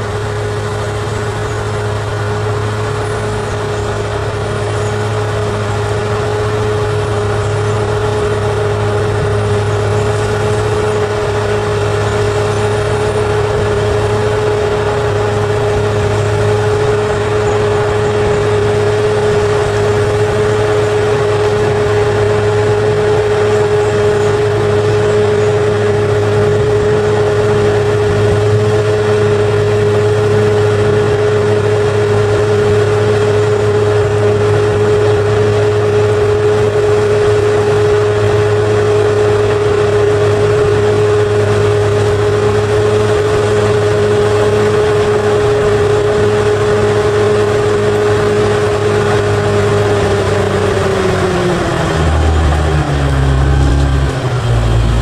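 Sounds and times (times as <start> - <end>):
bulldozer diesel engine running: 0.0 - 55.0
engine whine: 0.0 - 55.0.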